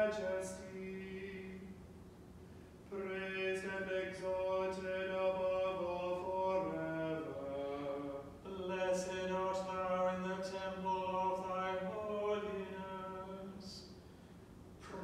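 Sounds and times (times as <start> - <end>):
man chanting: 0.0 - 1.7, 2.9 - 13.8.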